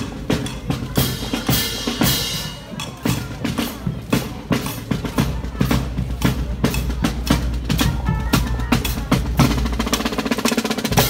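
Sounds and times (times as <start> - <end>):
snare and bass drum cadence: 0.0 - 11.0.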